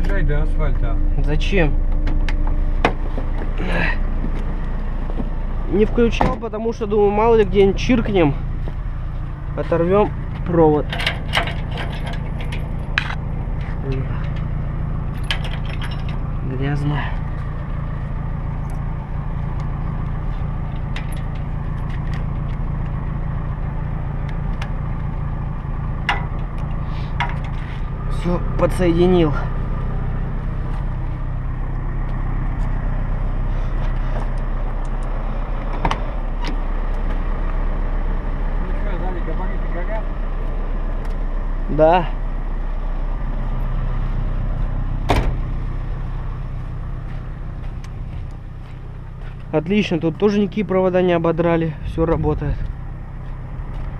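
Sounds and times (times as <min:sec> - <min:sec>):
vehicle engine idling: 0:00.0 - 0:53.9.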